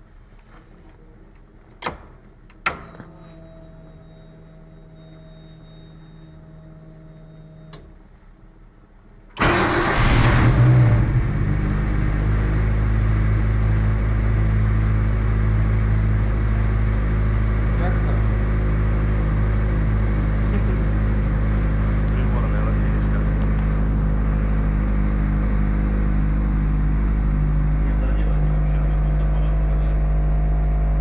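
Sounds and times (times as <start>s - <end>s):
steady electric hum: 0.0s - 9.5s, 10.4s - 31.0s
car engine starting and idling: 2.4s - 31.0s.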